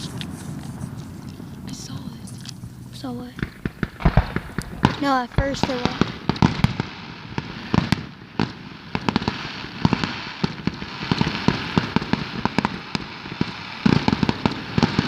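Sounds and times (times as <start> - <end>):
fireworks bangs and pops: 0.0 - 15.0
fireworks crackle: 0.0 - 15.0.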